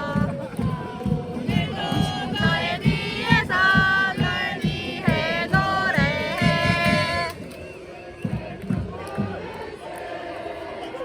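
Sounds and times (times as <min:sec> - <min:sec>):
steady drum beat: 0:00.0 - 0:07.6, 0:08.2 - 0:09.7.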